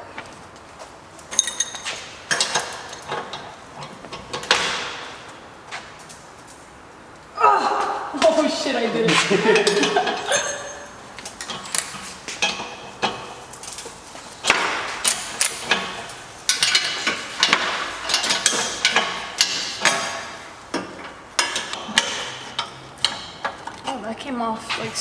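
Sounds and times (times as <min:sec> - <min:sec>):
metal tools and bolts clinking: 0:01.2 - 0:06.8, 0:09.4 - 0:23.9.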